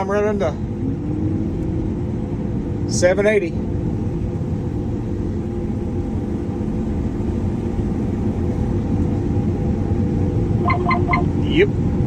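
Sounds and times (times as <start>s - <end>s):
combine engine and machinery drone: 0.0s - 12.0s
constant low hum: 0.0s - 12.0s.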